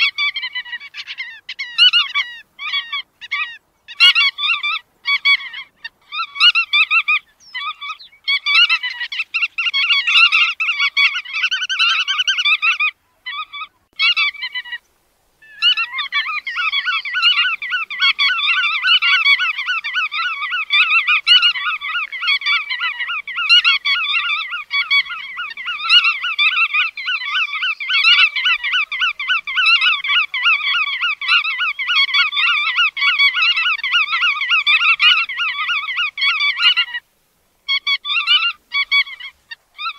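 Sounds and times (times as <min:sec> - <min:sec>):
godwits calling rapidly: 0:00.0 - 0:37.0, 0:37.7 - 0:39.9.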